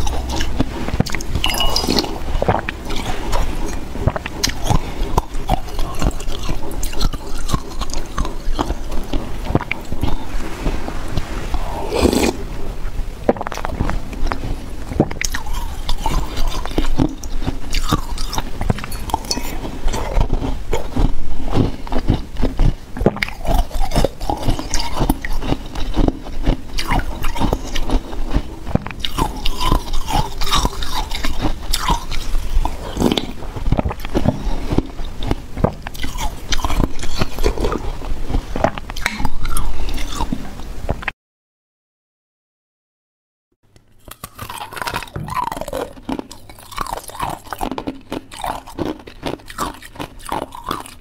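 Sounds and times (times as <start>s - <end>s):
ice being chewed: 0.0s - 41.1s, 43.8s - 51.0s.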